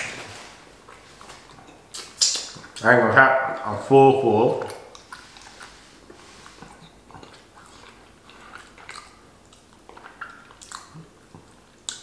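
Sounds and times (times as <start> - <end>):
person chewing food: 0.0 - 2.8, 4.5 - 12.0.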